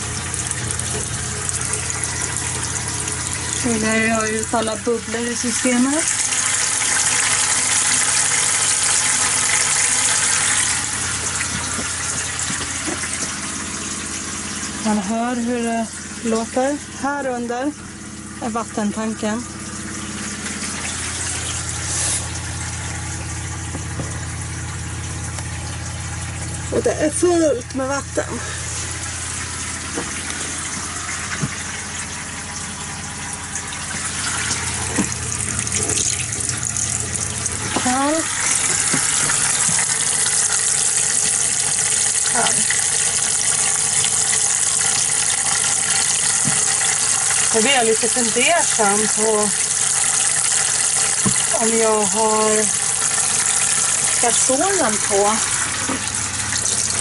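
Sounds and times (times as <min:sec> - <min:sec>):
tap water splashing into sink: 0:00.0 - 0:16.7, 0:18.5 - 0:26.8, 0:28.9 - 0:57.0.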